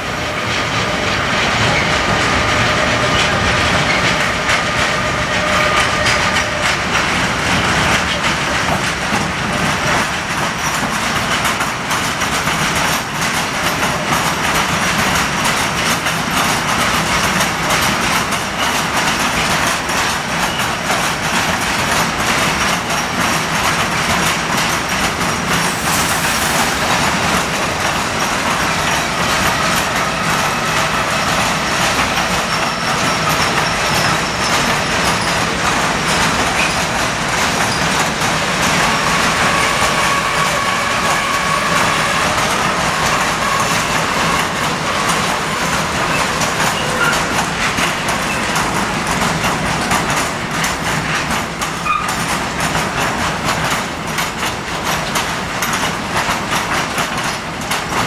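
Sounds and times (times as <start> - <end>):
freight train rolling past: 0.0 - 58.0
wheels clicking over rail joints: 0.1 - 25.8, 26.9 - 58.0.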